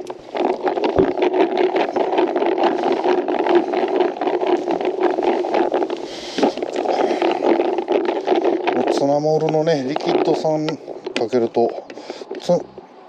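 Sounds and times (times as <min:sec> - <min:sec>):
baits rattling in a container: 0:00.0 - 0:12.6.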